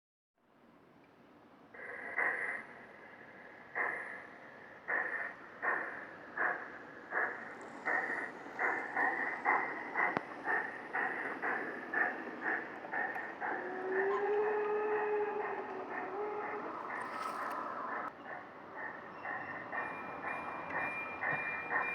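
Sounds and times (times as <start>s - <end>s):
model steam locomotive chuffing: 1.7s - 21.9s.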